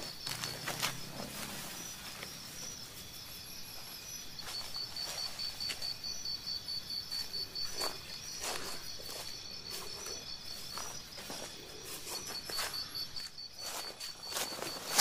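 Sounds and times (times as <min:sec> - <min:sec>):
footsteps crunching dry grass: 0:00.0 - 0:15.0
insect chirping: 0:00.0 - 0:15.0.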